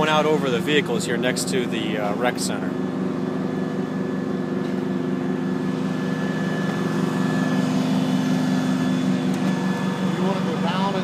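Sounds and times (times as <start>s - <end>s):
diesel engine low drone: 0.0s - 11.0s
hydraulic whine: 0.0s - 11.0s.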